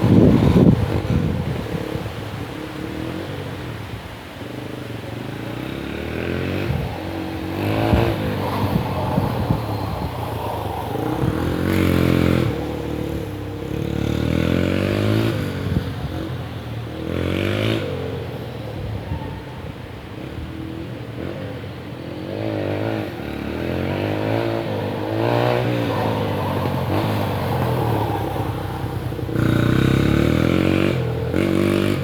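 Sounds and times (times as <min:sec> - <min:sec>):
dirt bike engine revving: 0:00.0 - 0:18.9, 0:20.2 - 0:32.0.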